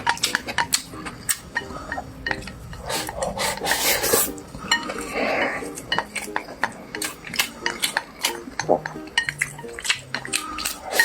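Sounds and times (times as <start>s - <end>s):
utensils scraping a bowl: 1.6s - 11.0s.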